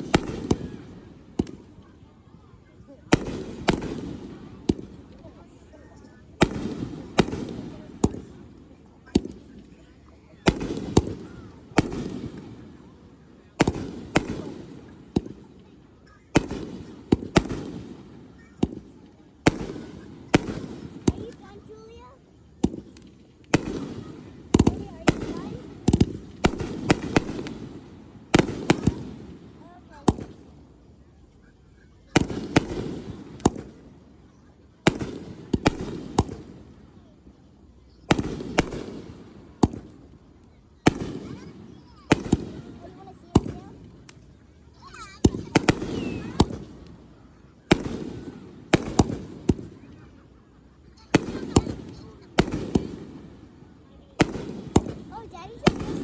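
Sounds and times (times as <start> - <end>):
fireworks bursting with bangs: 0.0 - 56.0.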